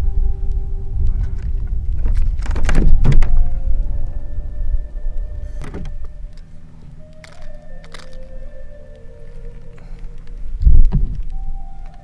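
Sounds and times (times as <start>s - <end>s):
soft background music: 0.0s - 12.0s
wind buffeting microphone: 0.0s - 12.0s.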